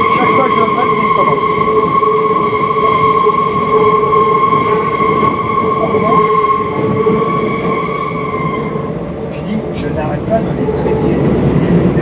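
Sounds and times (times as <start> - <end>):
train whine: 0.0 - 12.0
wheels rumbling on track: 0.0 - 12.0.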